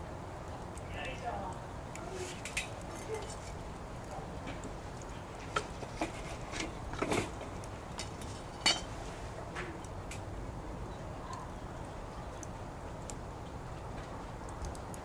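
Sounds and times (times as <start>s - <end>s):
wood fire crackling: 0.0s - 15.0s
fire pops and snaps: 0.4s - 10.3s, 11.3s - 15.0s.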